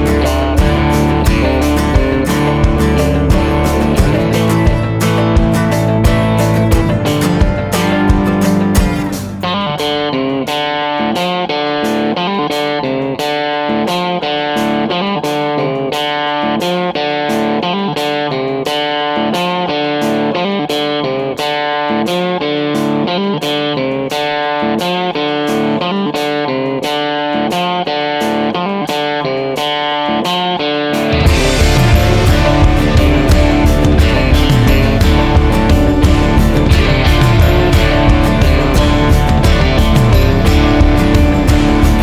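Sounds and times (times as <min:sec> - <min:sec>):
guitar music: 0:00.0 - 0:42.0.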